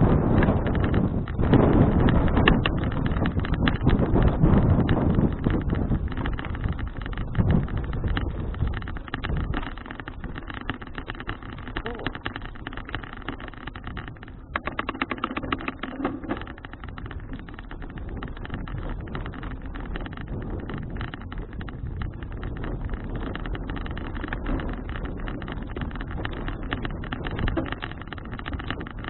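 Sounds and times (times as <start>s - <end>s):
tyres rumbling on road: 0.0s - 29.0s
wind buffeting microphone: 0.0s - 29.0s.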